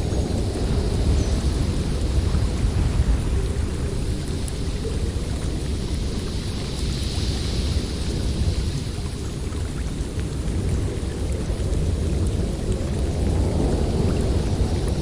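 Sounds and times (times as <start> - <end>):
blizzard wind gusting: 0.0 - 15.0
high wind hiss: 0.0 - 15.0.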